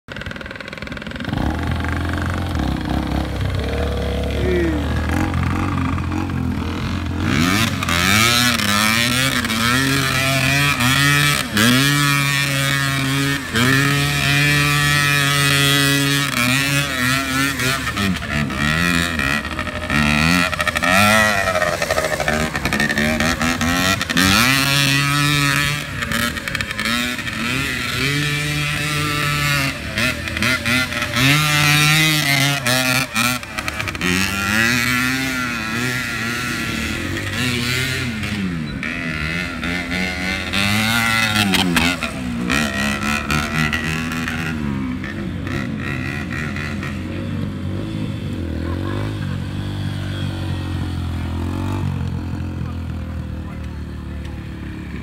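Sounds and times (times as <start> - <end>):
dirt bike and quad engines revving: 0.0 - 55.0.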